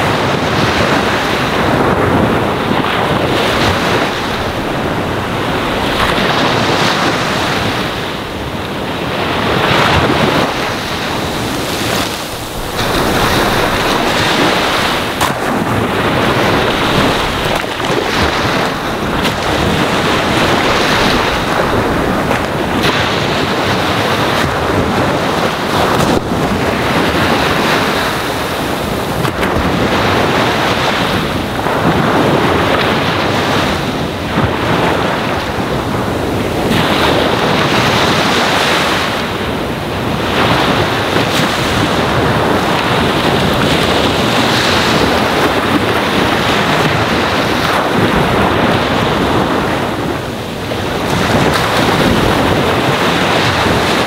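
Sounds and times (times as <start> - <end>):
ocean waves on sandy shore: 0.0 - 54.0.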